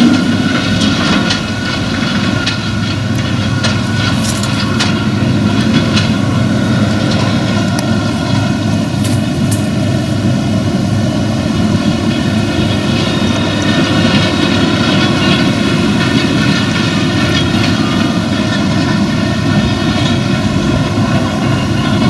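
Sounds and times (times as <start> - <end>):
baler machinery working: 0.0 - 22.0
tractor diesel engine running: 0.0 - 22.0.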